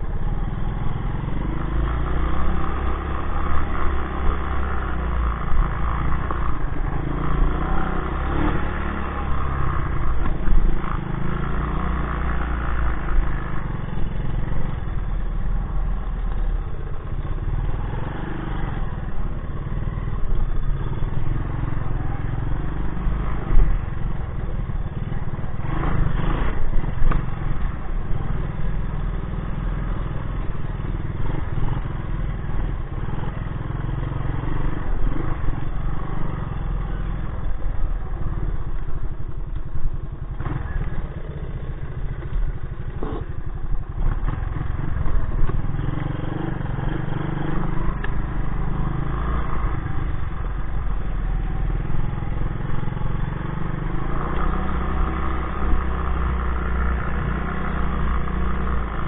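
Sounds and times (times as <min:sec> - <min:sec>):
vehicle rattling over rough ground: 0:00.0 - 0:59.0.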